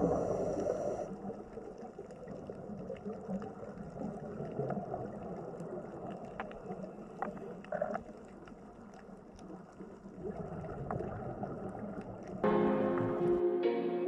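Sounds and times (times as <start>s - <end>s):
underwater rush of water: 0.0s - 12.4s.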